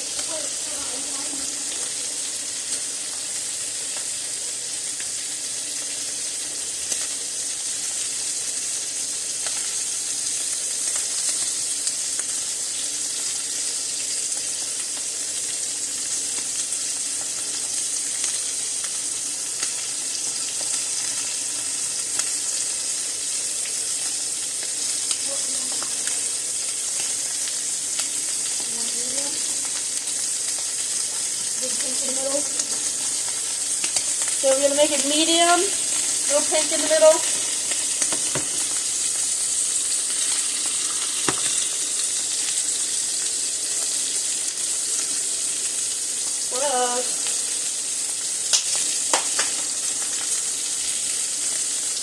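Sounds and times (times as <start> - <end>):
steaks sizzling in a frying pan: 0.0 - 52.0.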